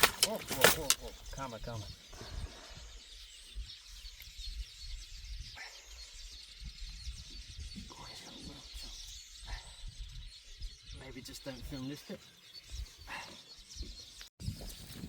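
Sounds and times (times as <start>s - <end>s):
chorus of high chirps: 0.0s - 14.3s.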